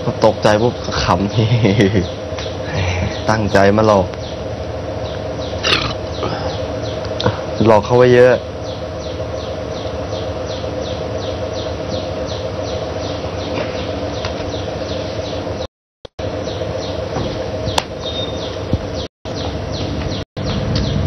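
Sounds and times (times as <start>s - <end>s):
low hum: 0.0s - 21.0s
bird chirping: 0.2s - 21.0s.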